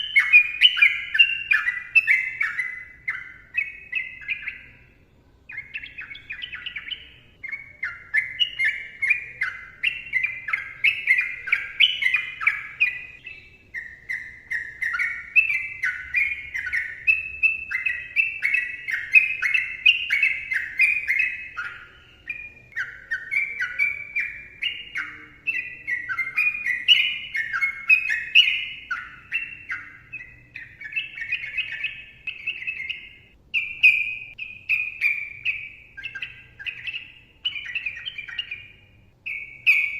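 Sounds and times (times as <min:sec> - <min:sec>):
bird singing chattering whistles: 0:00.0 - 0:39.9.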